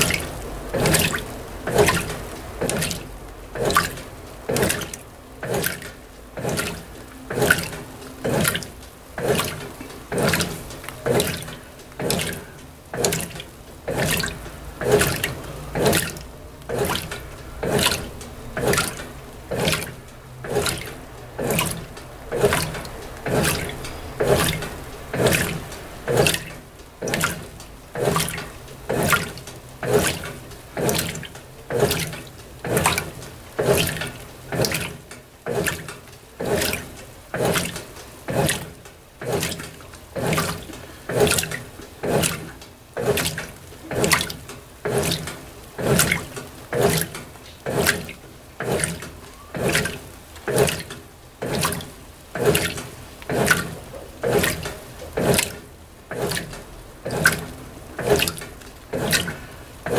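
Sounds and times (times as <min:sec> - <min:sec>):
washing machine agitating: 0:00.0 - 0:59.9
water and clothes sloshing: 0:00.0 - 0:59.9.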